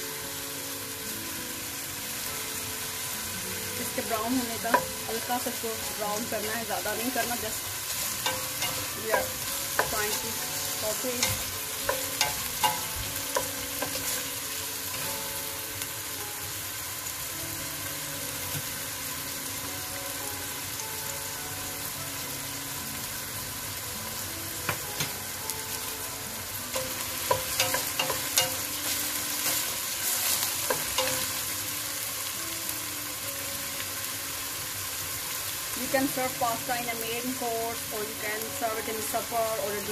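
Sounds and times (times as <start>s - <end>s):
onions sizzling in oil: 0.0s - 39.9s.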